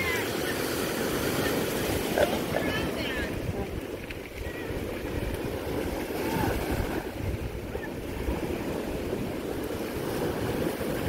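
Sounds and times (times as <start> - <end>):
small waves washing on shore: 0.0 - 11.0
wind buffeting microphone: 0.0 - 11.0.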